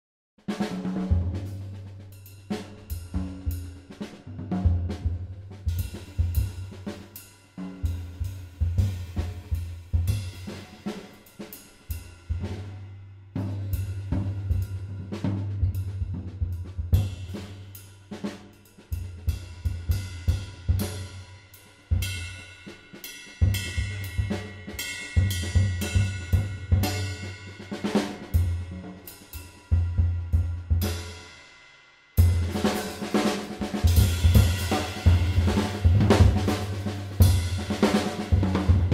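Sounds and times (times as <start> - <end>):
drum kit beat: 0.5 - 12.8, 13.4 - 31.3, 32.2 - 38.9.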